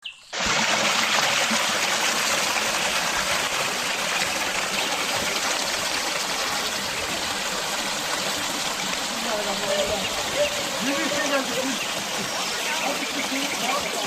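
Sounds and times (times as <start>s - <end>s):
water rushing and splashing: 0.3s - 14.0s.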